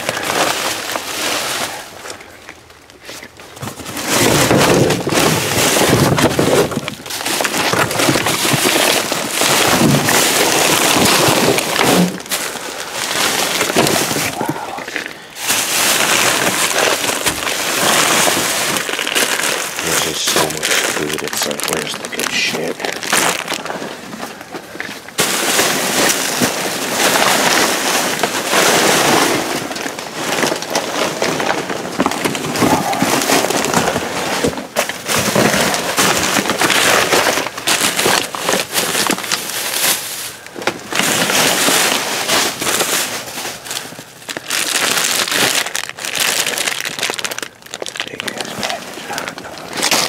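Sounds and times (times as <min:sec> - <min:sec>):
plastic bags crinkling: 0:00.0 - 0:50.0.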